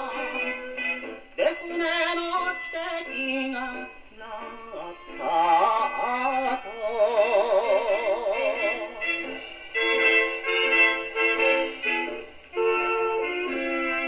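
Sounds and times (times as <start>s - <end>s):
song on a wind-up gramophone: 0.0s - 14.0s.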